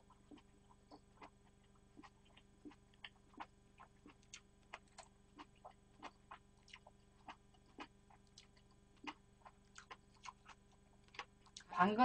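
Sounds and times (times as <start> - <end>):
person chewing: 0.0 - 11.7
faint electrical hum: 0.0 - 12.0.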